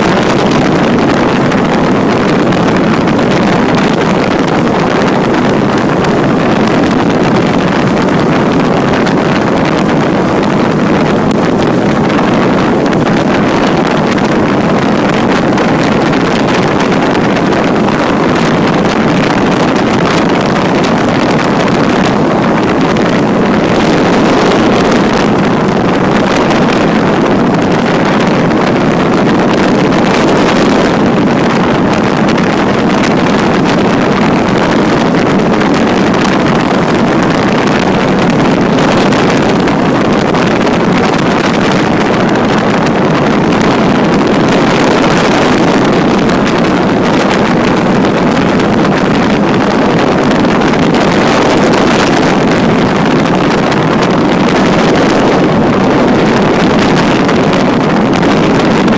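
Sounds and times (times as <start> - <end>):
engine droning: 0.0 - 58.9
wind rushing over microphone: 0.0 - 58.9.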